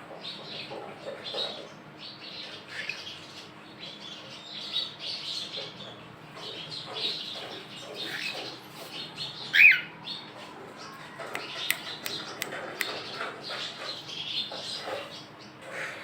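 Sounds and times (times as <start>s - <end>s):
cockatiels chattering: 0.1s - 16.0s.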